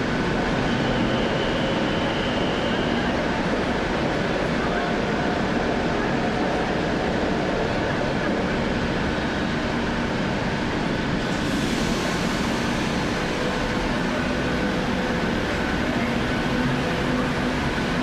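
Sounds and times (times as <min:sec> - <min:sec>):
city ambience rumble: 0:00.0 - 0:18.0.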